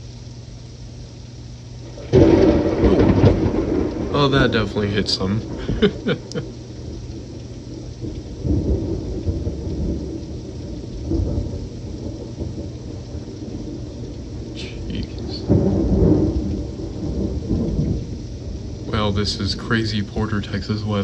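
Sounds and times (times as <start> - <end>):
steady rain: 0.0 - 21.0
thunder rumbling: 1.7 - 21.0.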